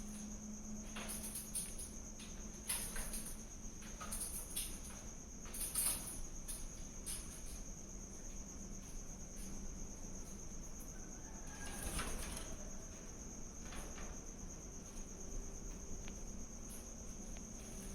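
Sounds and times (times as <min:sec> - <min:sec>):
crickets chirping: 0:00.0 - 0:17.9.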